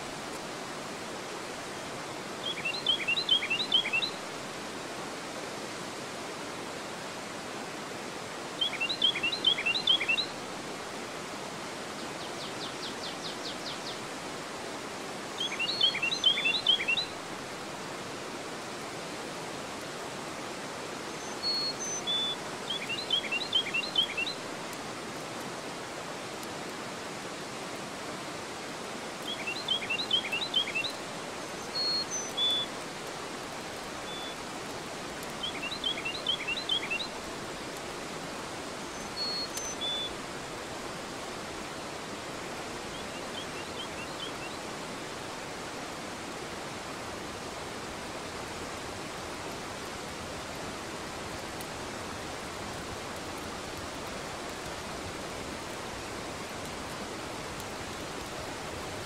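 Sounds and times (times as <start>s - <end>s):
river water rushing over weir: 0.0s - 59.0s.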